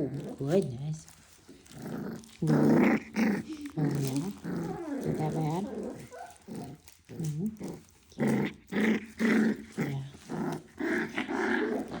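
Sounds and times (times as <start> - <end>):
puppies growling: 0.0 - 12.0.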